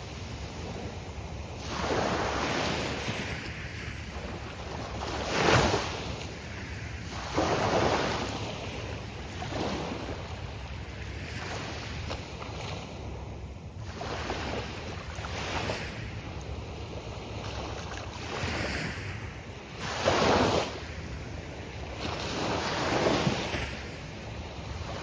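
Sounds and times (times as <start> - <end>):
waves breaking on shore: 0.0 - 25.0.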